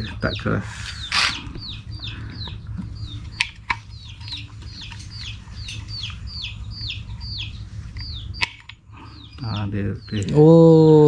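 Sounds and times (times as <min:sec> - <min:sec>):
bird calling: 0:00.0 - 0:11.0
steady low hum: 0:00.0 - 0:11.0.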